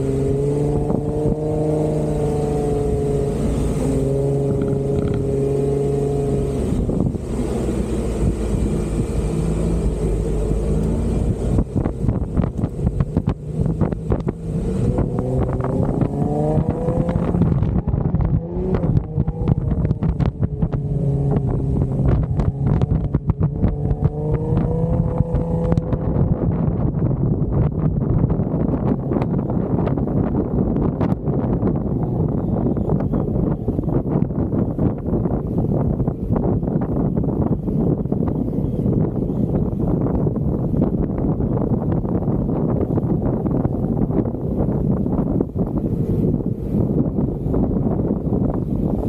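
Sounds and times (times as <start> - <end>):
off-road vehicle engine revving: 0.0 - 49.0
wind on microphone: 0.0 - 49.0.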